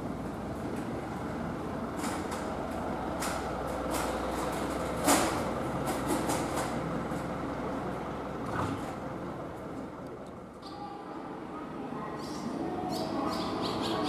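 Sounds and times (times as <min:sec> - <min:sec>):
station ambience rumble: 0:00.0 - 0:14.0.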